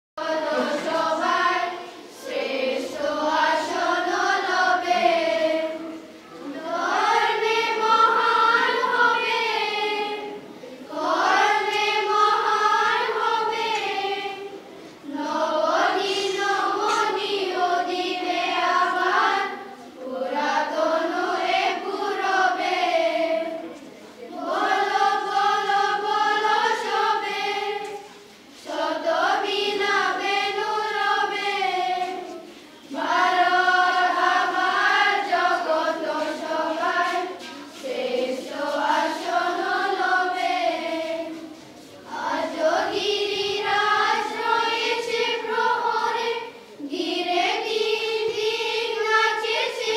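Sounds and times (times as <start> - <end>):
children's choir singing: 0.2 - 49.9.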